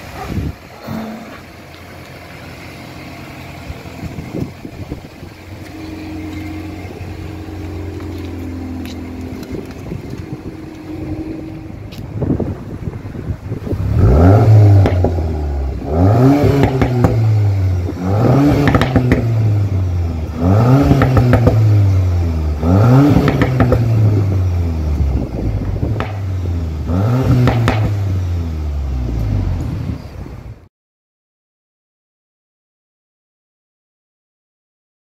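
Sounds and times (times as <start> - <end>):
car engine revving: 0.0 - 30.4
exhaust crackles: 0.0 - 30.6.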